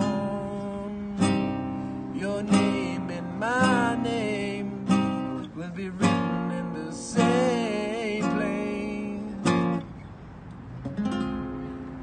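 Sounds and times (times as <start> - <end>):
man singing: 0.0 - 9.8
acoustic guitar strumming: 0.0 - 10.1, 10.8 - 12.0.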